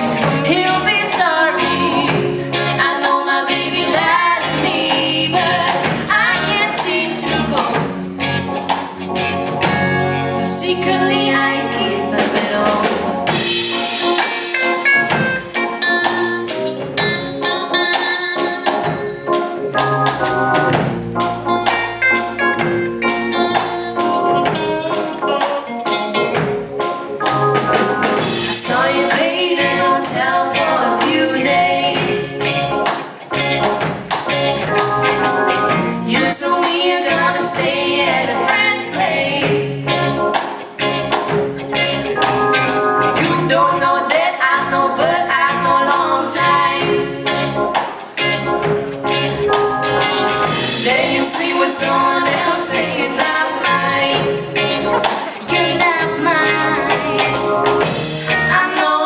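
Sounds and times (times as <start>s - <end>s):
bass guitar: 0.0s - 59.0s
drum kit beat: 0.0s - 59.0s
electric guitar: 0.0s - 59.0s
organ-voiced synthesizer: 3.5s - 58.7s.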